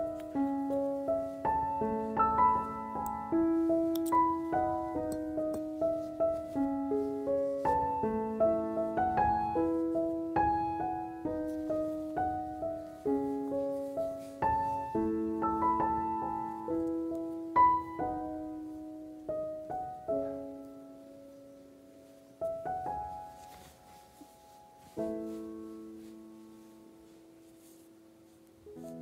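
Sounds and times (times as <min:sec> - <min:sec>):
soft piano music: 0:00.0 - 0:29.0.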